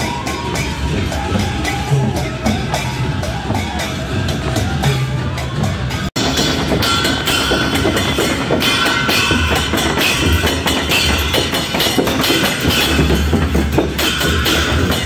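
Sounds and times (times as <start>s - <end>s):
fast drum percussion music: 0.0s - 15.0s.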